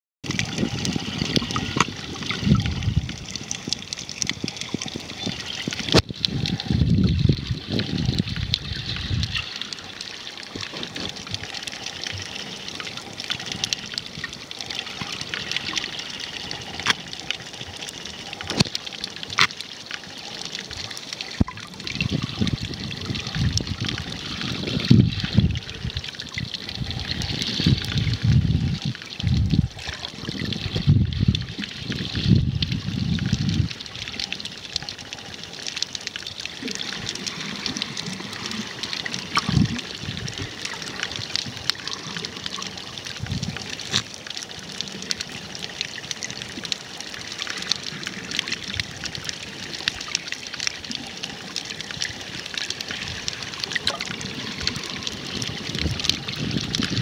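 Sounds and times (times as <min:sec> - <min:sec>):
fine underwater crackle: 0:00.2 - 0:57.0
muffled rushes of water: 0:00.2 - 0:57.0
water moving over microphone: 0:00.2 - 0:57.0.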